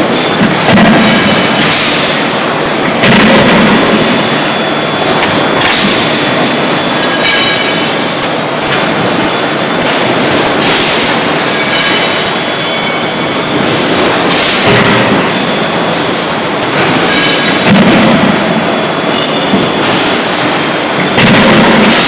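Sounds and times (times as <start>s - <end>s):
forging hammer machine din: 0.0s - 22.0s.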